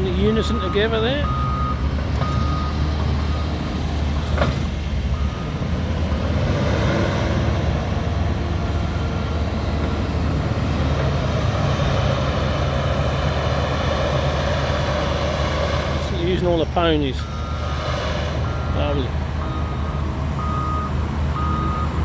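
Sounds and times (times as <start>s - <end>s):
heavy diesel engines under load: 0.0s - 22.0s.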